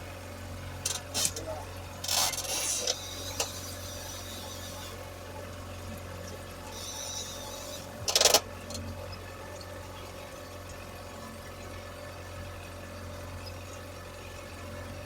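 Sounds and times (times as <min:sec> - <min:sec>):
boat motor drone: 0:00.0 - 0:15.0.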